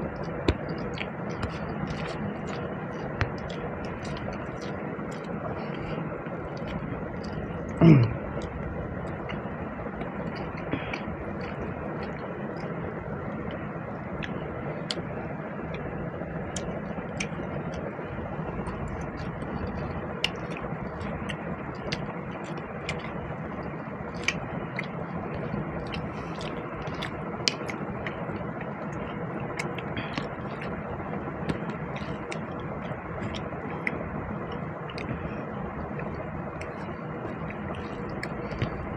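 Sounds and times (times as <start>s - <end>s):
faint hum: 0.0s - 38.9s
person chewing and eating: 0.0s - 38.9s.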